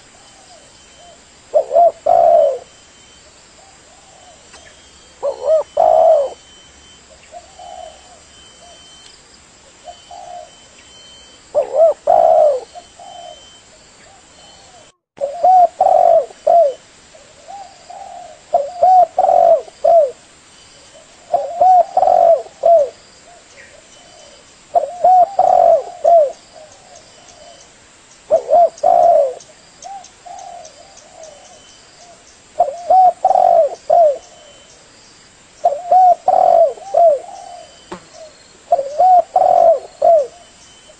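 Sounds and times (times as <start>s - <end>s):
doves cooing: 0.0s - 2.8s, 3.6s - 9.0s, 9.8s - 20.2s, 21.0s - 27.6s, 28.3s - 34.8s, 35.6s - 40.9s.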